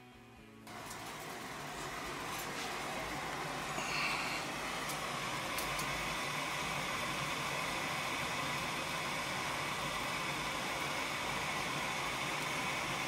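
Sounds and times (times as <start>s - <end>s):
furnace whirring with rushing air: 0.6s - 13.0s.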